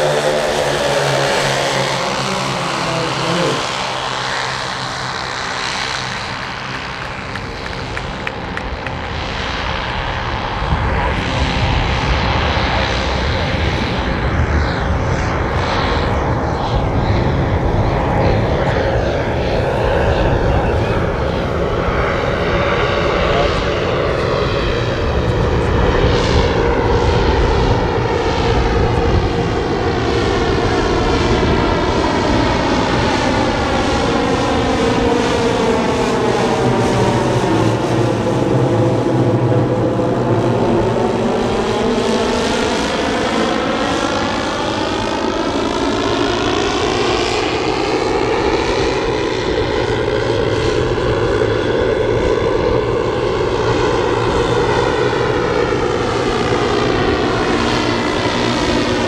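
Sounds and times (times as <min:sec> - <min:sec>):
model airplane engines running: 0:00.0 - 0:59.0.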